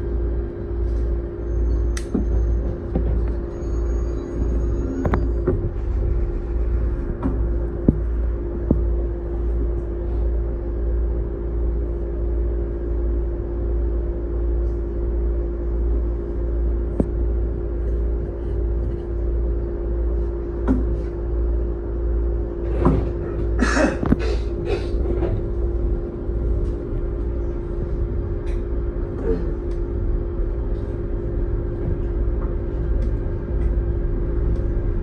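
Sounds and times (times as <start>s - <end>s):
constant hum: 0.0s - 35.0s
train running rumble: 0.0s - 35.0s.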